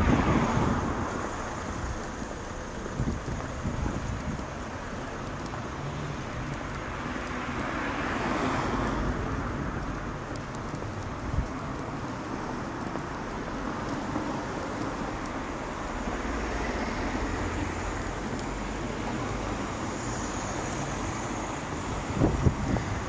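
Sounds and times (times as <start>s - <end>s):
cars passing: 0.0s - 23.0s
road noise hum: 0.0s - 23.0s.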